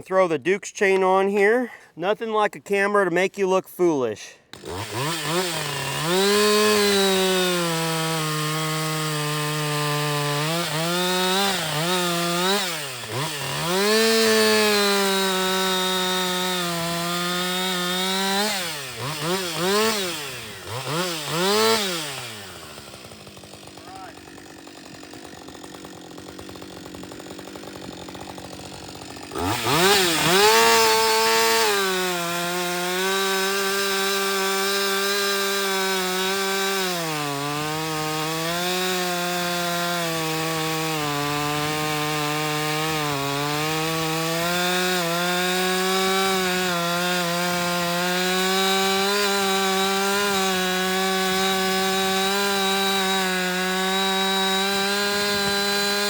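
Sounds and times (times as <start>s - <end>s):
chainsaw cutting wood: 4.4s - 56.0s.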